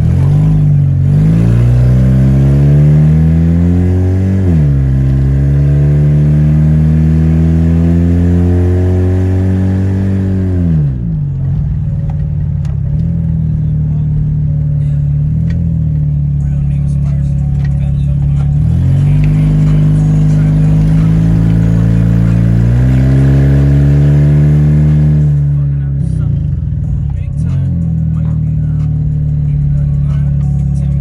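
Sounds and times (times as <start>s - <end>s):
rotary engine accelerating: 0.0s - 31.0s.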